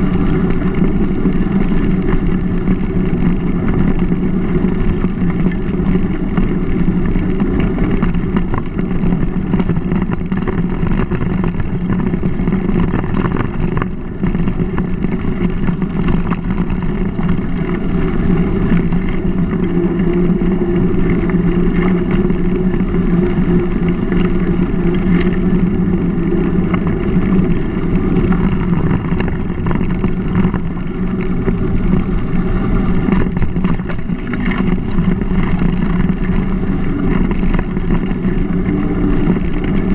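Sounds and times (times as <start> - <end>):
bike tyres rolling on gravel: 0.0 - 39.9
wind rushing over microphone: 0.0 - 39.9.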